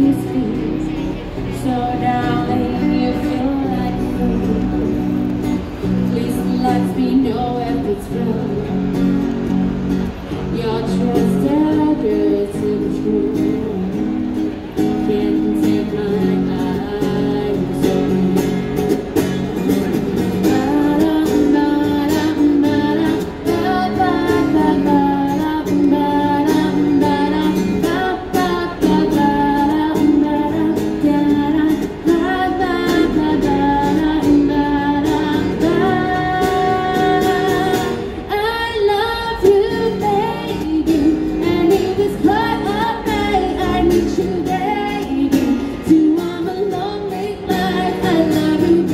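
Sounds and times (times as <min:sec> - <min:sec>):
woman singing pop song: 0:00.0 - 0:09.6, 0:10.3 - 0:18.9, 0:19.9 - 0:48.9
acoustic guitar strumming: 0:00.0 - 0:48.9.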